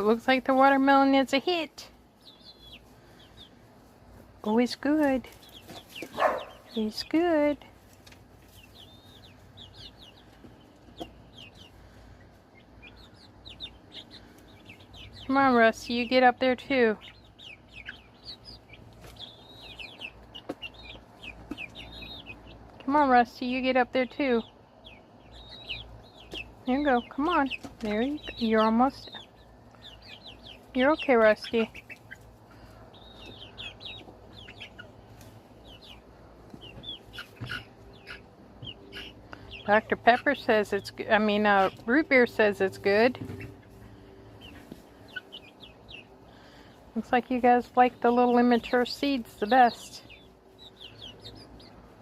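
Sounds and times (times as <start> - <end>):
chickens chirping: 0.0 - 52.0.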